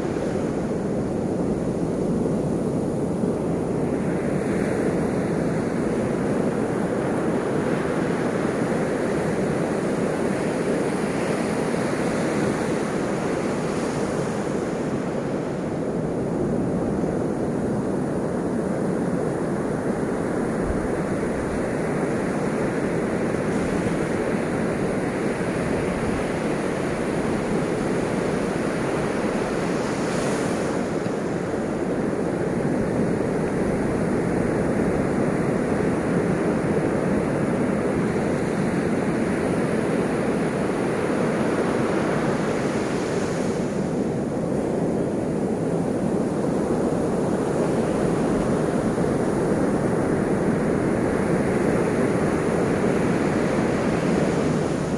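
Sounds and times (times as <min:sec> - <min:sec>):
ocean waves washing on shore: 0:00.0 - 0:54.9.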